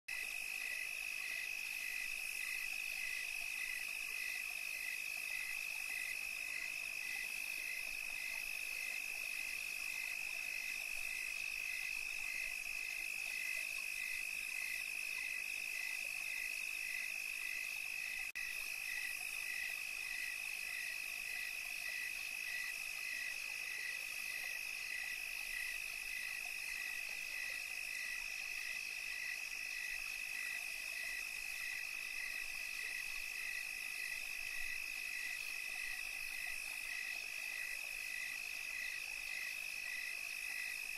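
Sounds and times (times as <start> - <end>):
insects trilling: 0.1 - 40.9.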